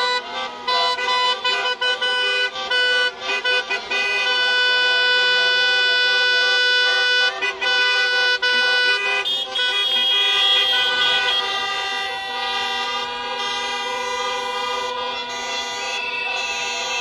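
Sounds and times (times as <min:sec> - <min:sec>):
many car horns honking: 0:00.0 - 0:17.0.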